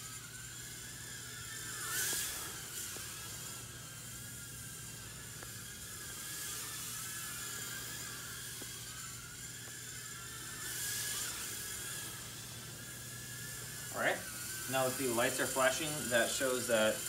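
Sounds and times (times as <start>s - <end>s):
quadcopter fans whining: 0.0s - 17.0s.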